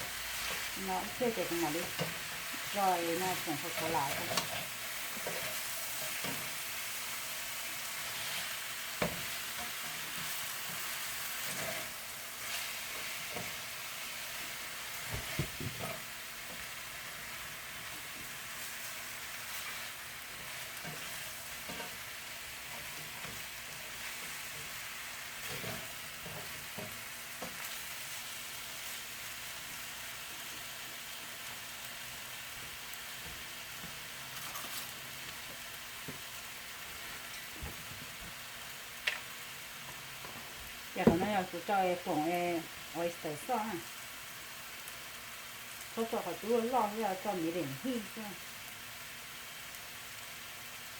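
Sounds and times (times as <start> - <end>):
chicken sizzling in a pan: 0.0 - 50.9.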